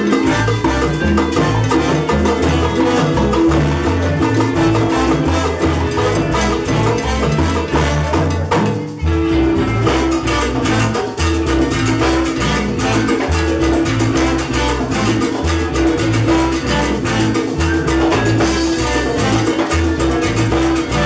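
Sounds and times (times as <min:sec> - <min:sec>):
bass line: 0:00.0 - 0:21.0
hand drums and percussion: 0:00.0 - 0:21.0
live salsa band playing: 0:00.0 - 0:21.0.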